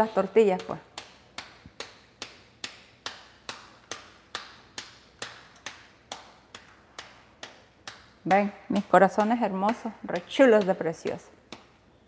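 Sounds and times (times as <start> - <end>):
hands slapping dough: 0.0 - 12.0.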